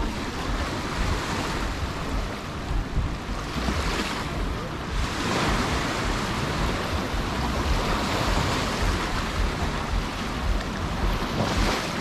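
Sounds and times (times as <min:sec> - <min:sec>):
sea surf washing onto beach: 0:00.0 - 0:12.0
wind rumbling on microphone: 0:00.0 - 0:12.0.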